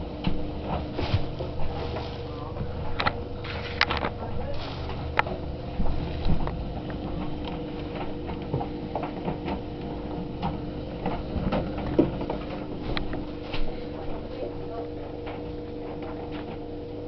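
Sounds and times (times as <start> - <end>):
dryer drum clicks and knocks: 0.0 - 17.0
tumble dryer motor hum: 0.0 - 17.0.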